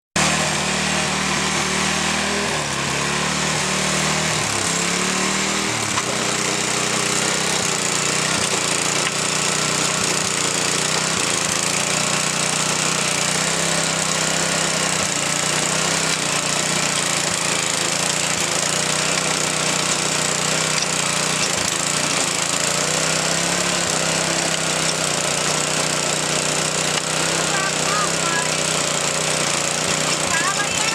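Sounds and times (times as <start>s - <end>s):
garden tiller engine running: 0.2s - 30.9s.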